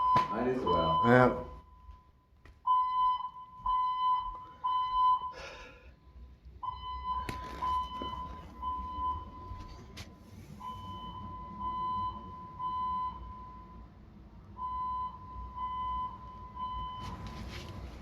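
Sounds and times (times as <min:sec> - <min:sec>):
fire alarm electronic beeps: 0:00.0 - 0:05.6, 0:06.6 - 0:09.6, 0:10.6 - 0:13.8, 0:14.6 - 0:17.2.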